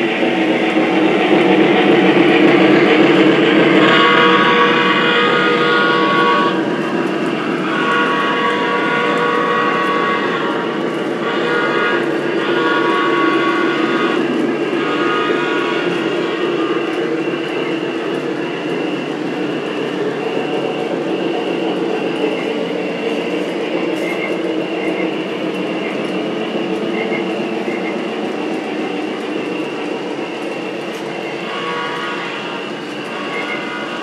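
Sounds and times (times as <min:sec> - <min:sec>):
model steam locomotive rumbling: 0:00.0 - 0:34.0.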